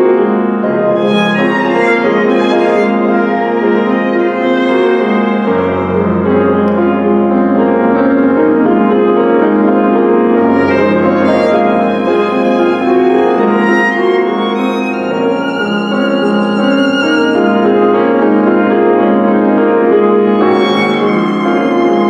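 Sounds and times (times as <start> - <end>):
piano: 0.0 - 22.0
violin: 0.0 - 22.0.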